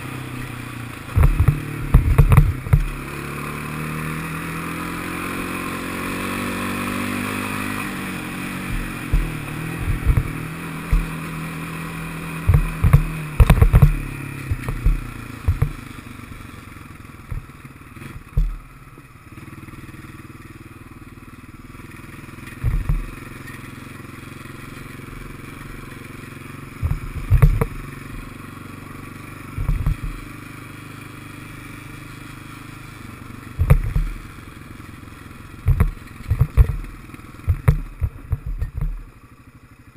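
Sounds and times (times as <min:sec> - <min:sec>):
thumps and clatter over rough track: 0:00.0 - 0:20.2, 0:21.7 - 0:39.3
atv engine running: 0:00.0 - 0:39.9.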